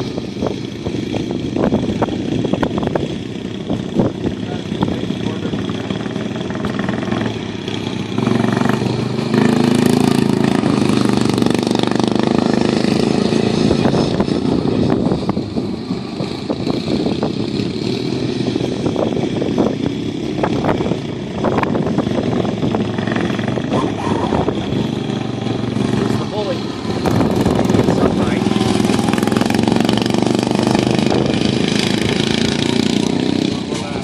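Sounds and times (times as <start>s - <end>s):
lawn mower engine at full throttle: 0.0s - 34.0s.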